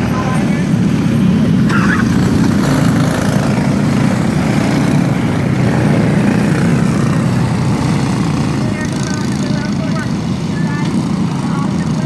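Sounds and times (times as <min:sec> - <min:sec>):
kart engines droning: 0:00.0 - 0:12.0.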